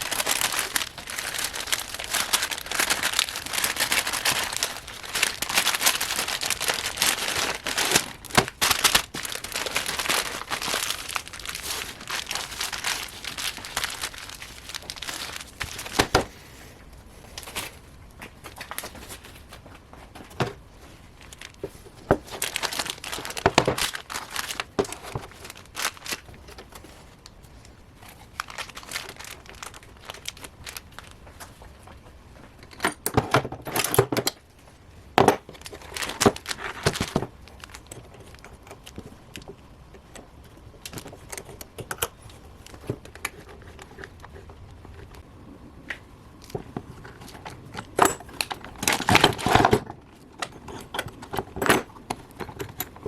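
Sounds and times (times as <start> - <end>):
rustling and crinkling: 0.0 - 53.0.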